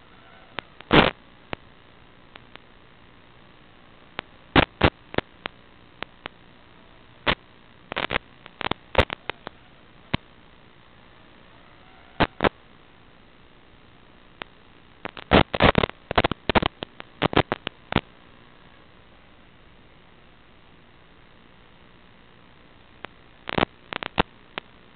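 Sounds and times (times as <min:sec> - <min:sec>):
sharp crackles and pops: 0:00.0 - 0:19.1, 0:19.7 - 0:24.9
steady low static hiss: 0:00.0 - 0:24.9.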